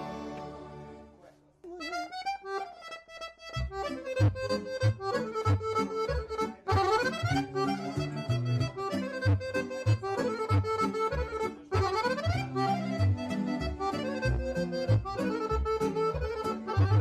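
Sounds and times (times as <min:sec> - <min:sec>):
button accordion melody: 0:00.0 - 0:17.0
keyboard backing with bass beat: 0:00.0 - 0:17.0.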